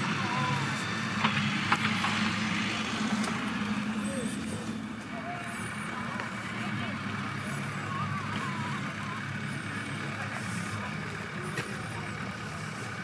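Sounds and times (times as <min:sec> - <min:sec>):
faint voices: 0:00.0 - 0:13.0
vehicle engines idling: 0:00.0 - 0:13.0.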